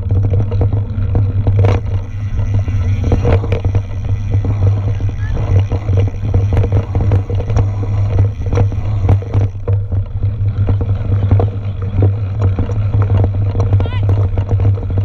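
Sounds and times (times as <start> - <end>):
bike rattling and knocking: 0.0 - 15.0
bike tyres rumbling on trail: 0.0 - 15.0.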